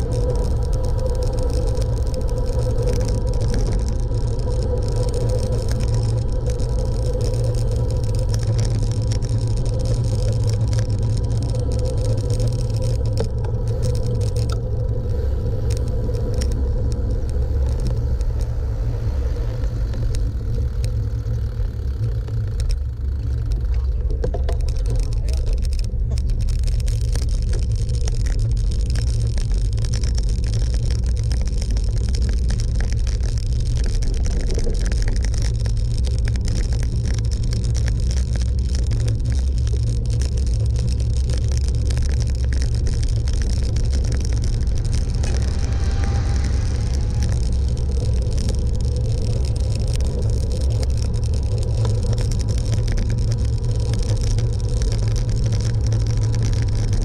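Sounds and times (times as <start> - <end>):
faint steady hum: 0.0 - 57.0
road and wind noise: 0.0 - 57.0.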